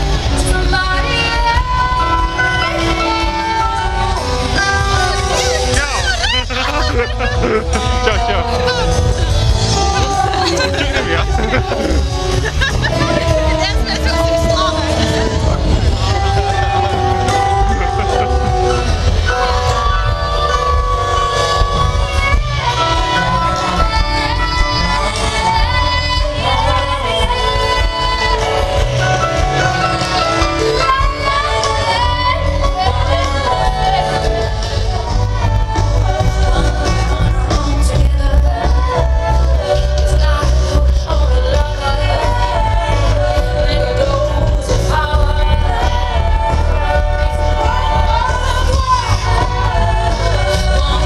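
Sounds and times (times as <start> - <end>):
heavy steady bass: 0.0 - 51.0
live band over speakers: 0.0 - 51.0
person singing: 0.0 - 51.0
pop music over loudspeakers: 0.0 - 51.0.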